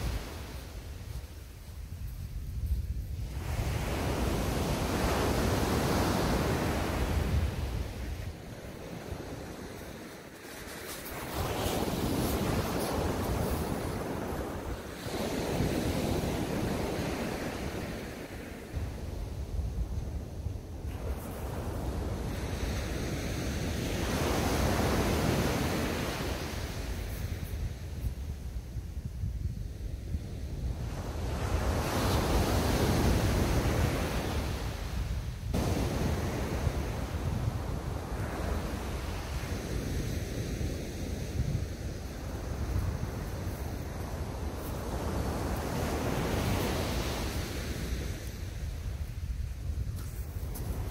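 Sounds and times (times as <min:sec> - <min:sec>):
sea surf breaking on beach: 0:00.0 - 0:28.2, 0:30.4 - 0:50.9
wind buffeting microphone: 0:00.0 - 0:50.9.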